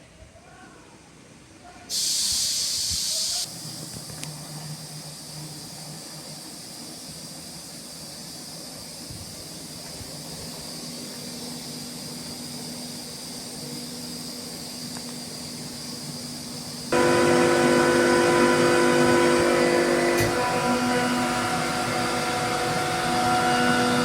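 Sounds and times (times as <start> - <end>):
rushing air hiss: 1.9 - 3.7, 5.0 - 23.4
air compressor humming and whining: 2.0 - 24.0.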